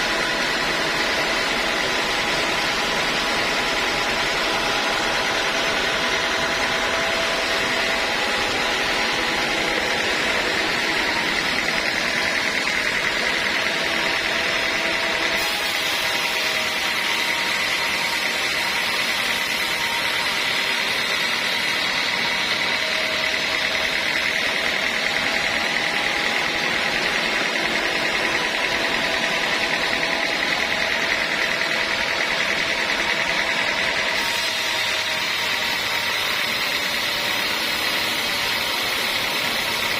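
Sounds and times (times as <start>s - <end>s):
band saw machine whine: 0.0s - 39.9s.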